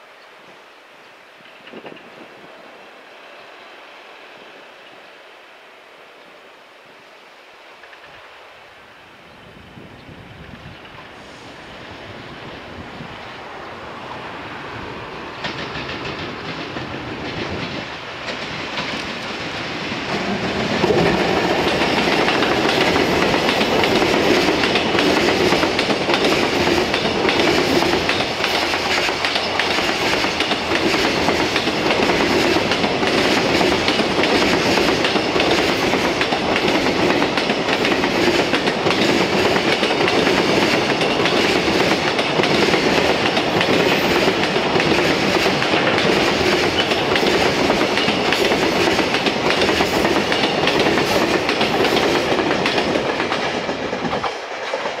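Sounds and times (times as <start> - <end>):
freight train rolling on rails: 0.0 - 55.0.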